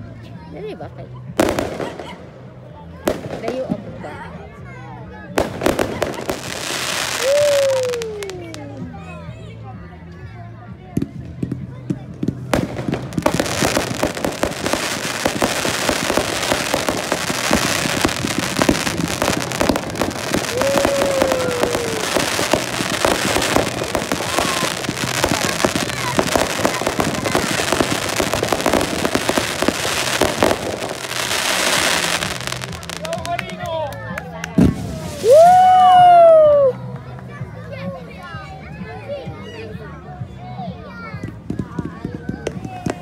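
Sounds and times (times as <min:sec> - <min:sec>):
fireworks bangs and crackling: 0:01.2 - 0:09.6, 0:10.7 - 0:36.7, 0:41.1 - 0:43.0.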